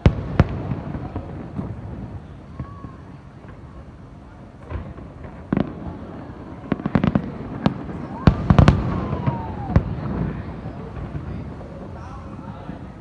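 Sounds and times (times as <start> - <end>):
faint firework whistling: 0.0 - 13.0
fireworks bursting: 0.0 - 13.0.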